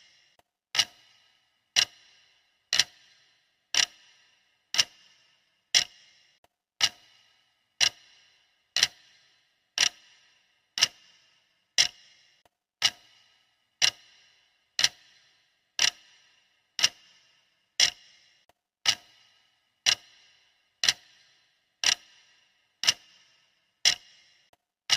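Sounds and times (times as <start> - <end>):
clock ticking: 0.0 - 24.9.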